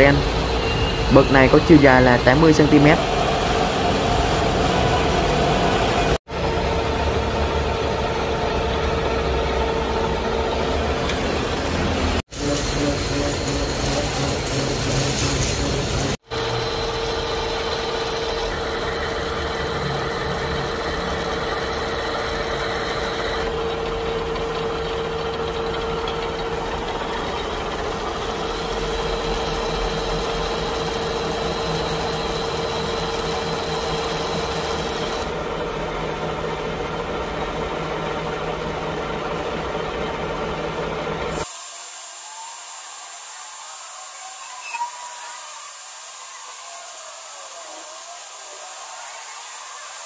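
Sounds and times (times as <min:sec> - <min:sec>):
metal cutting noise: 0:00.0 - 0:06.2, 0:08.4 - 0:35.4, 0:41.3 - 0:50.0
lathe machine drone: 0:00.0 - 0:50.0.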